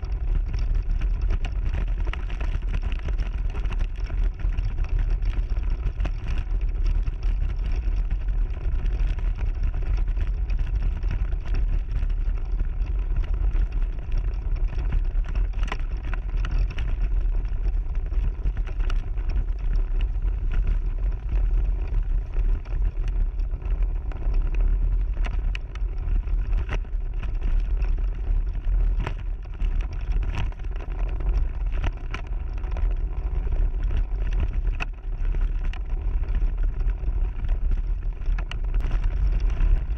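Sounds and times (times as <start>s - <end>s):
scooter rumbling over gravel: 0.0s - 39.9s.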